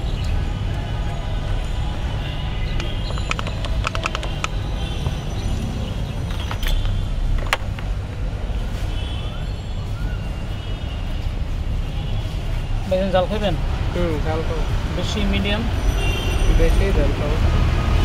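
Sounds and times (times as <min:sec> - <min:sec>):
low rumble of street traffic: 0:00.0 - 0:18.0.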